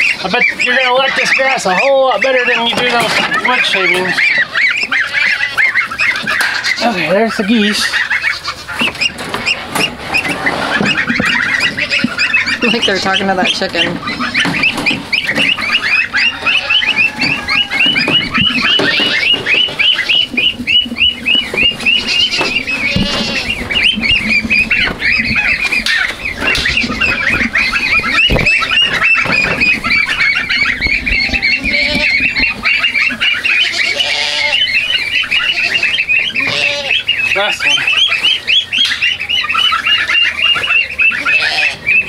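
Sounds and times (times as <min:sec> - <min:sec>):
ducklings and goslings peeping: 0:00.0 - 0:42.0
lower bird call: 0:07.7 - 0:42.0.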